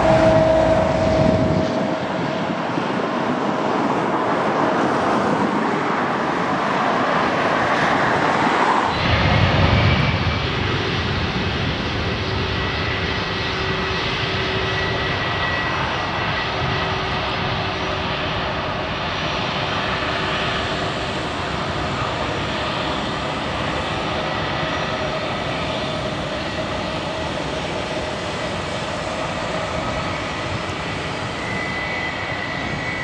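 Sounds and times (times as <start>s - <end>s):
jet engines roaring: 0.0s - 33.0s
jet engines rumbling and whining: 0.0s - 33.0s.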